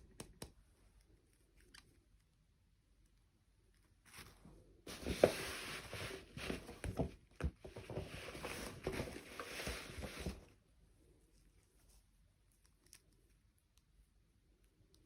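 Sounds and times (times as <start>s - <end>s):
rustling and handling noises: 0.2s - 15.0s.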